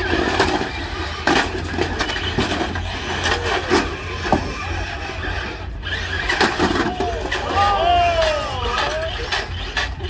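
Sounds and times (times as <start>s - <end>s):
toy cars colliding: 0.0s - 10.0s
tyres scraping on asphalt: 0.0s - 10.0s.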